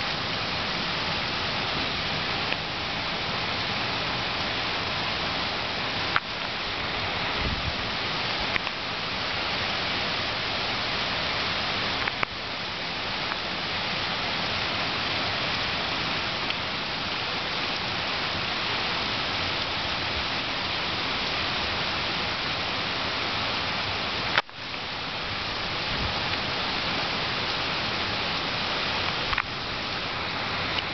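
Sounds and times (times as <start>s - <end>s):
heavy rain on flooded street: 0.0s - 30.9s.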